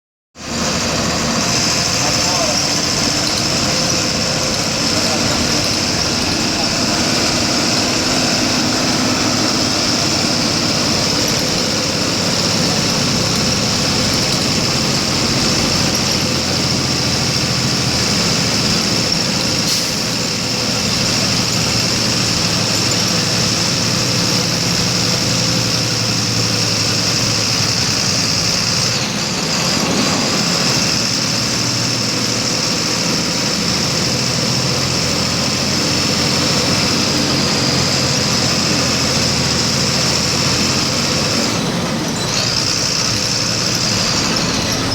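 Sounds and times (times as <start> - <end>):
bus engine running: 0.4 - 44.9.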